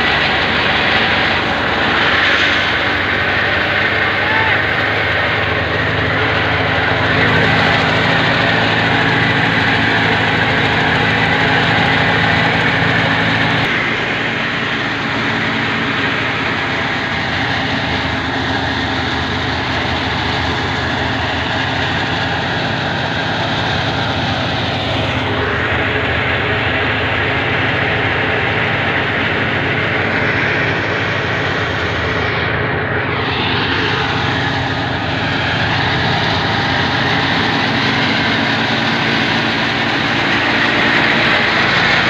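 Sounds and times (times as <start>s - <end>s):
tractor-driven thresher running: 0.0s - 42.0s.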